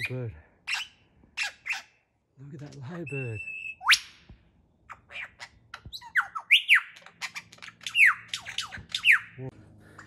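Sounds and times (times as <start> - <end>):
lyrebird singing: 0.0 - 10.0.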